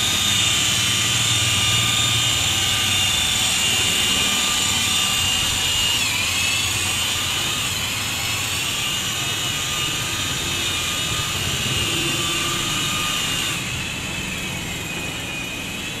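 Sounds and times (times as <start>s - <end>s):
polisher motor whining: 0.0s - 16.0s.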